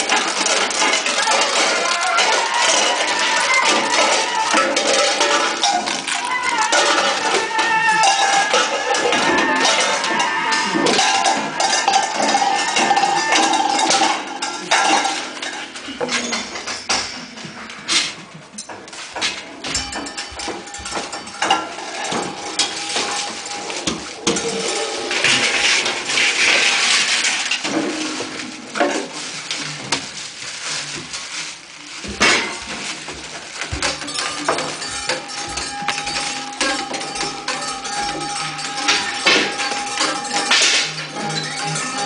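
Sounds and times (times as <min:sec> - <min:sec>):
metal clinks knocks and scrapes: 0:00.0 - 0:30.0, 0:32.1 - 0:42.0.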